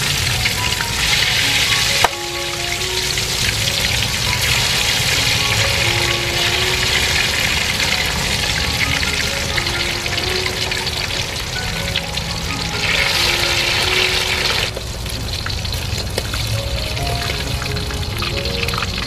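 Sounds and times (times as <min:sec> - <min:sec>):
fish deep-frying in hot oil: 0:00.0 - 0:19.0.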